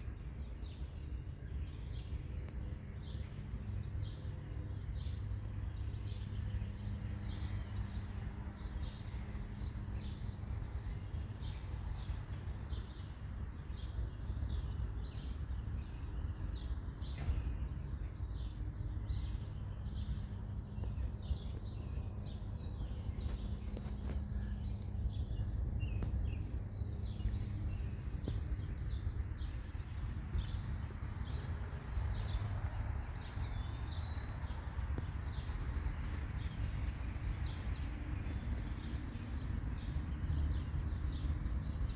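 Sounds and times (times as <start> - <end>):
songbirds chirping: 0.0 - 41.9.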